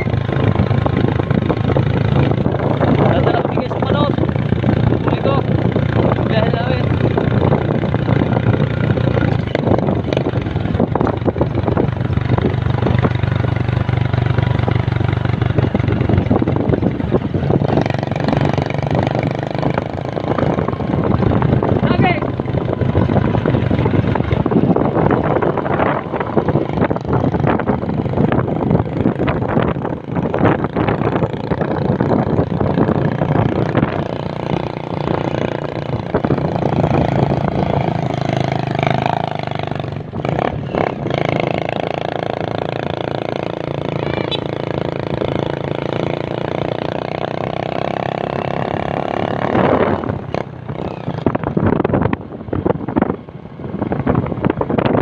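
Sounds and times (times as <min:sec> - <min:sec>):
boat engine running: 0:00.0 - 0:46.8
wind buffeting microphone: 0:00.0 - 0:55.0.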